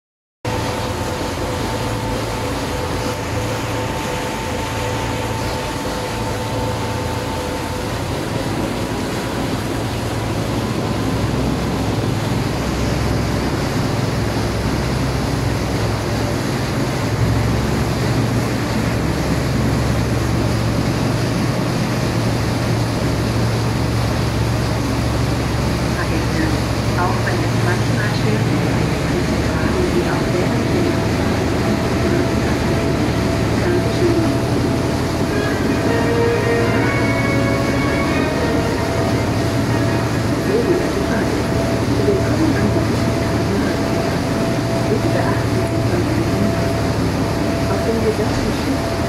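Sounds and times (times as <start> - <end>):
boat engines droning: 0.5 - 49.0
faint steady whine: 0.5 - 49.0
rushing boat wake: 0.5 - 49.0.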